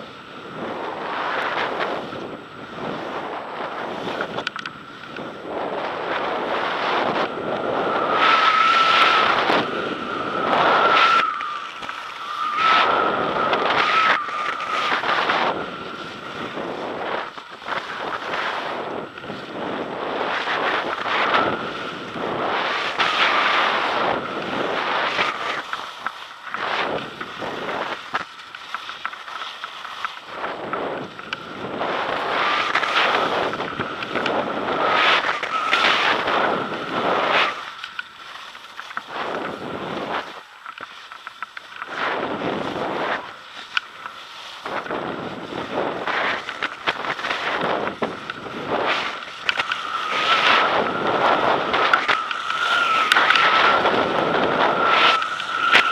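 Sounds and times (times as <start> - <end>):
wind buffeting microphone: 0.0 - 40.5, 41.6 - 55.9
skis scraping on packed snow: 0.0 - 55.9.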